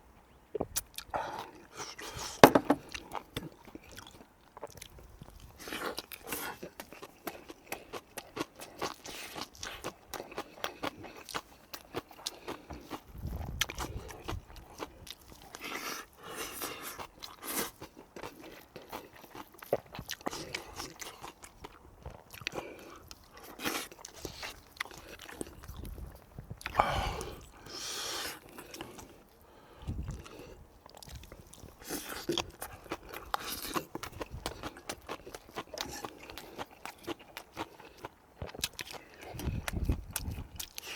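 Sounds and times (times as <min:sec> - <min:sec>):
person chewing food: 0:00.5 - 0:40.9.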